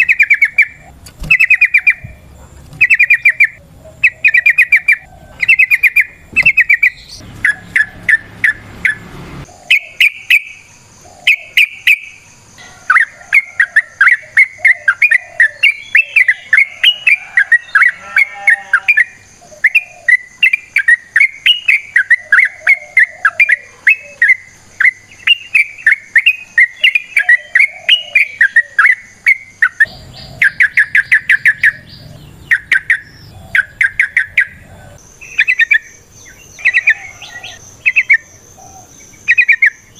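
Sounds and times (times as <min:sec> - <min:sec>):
bulbul singing chirping notes: 0:00.0 - 0:39.9.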